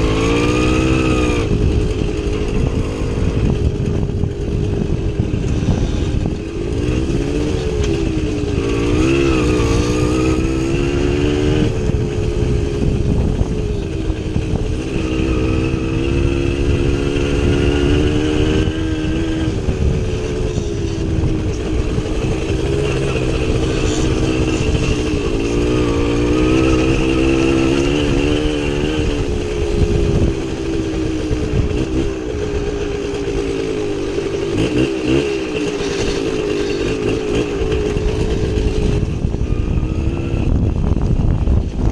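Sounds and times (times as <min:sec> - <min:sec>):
low rumbling noise: 0:00.0 - 0:41.9
two-stroke motorcycle engine revving: 0:00.0 - 0:41.9.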